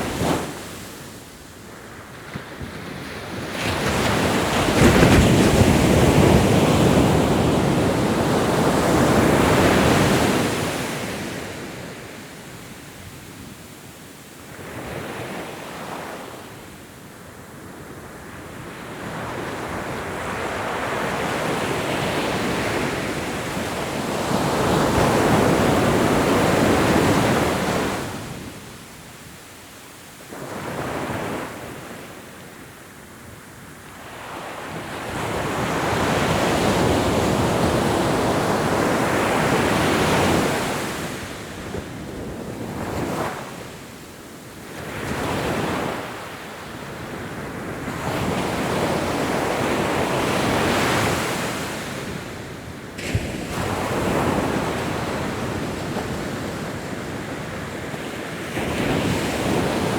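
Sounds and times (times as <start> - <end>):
ocean waves breaking on shore: 0.0 - 13.5, 14.4 - 29.4, 30.0 - 59.9.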